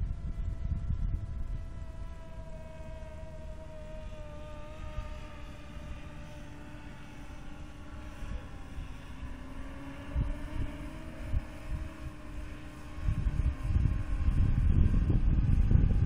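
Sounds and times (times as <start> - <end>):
drone motors humming: 0.0 - 16.0
wind buffeting microphone: 0.0 - 16.0.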